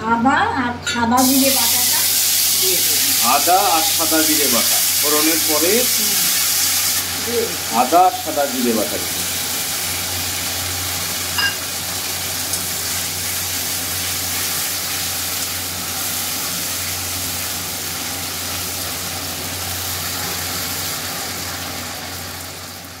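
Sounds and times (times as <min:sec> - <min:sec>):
paste sizzling in oil: 0:01.2 - 0:23.0.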